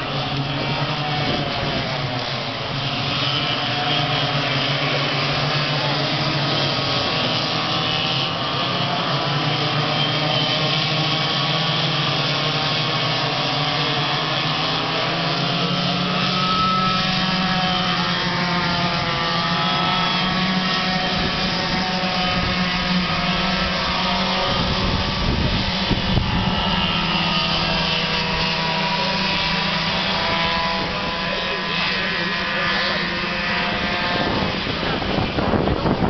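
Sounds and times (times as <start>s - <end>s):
go-kart engines racing: 0.0s - 36.0s.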